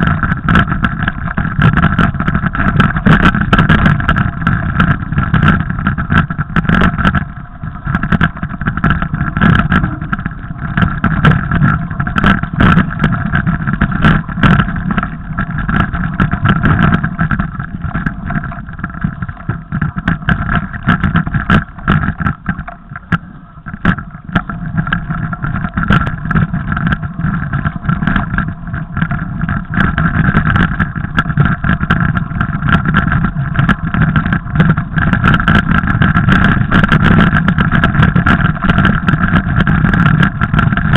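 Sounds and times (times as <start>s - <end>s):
bike knocks and rattles: 0.0s - 40.9s
wind and tyre rumble: 0.0s - 40.9s.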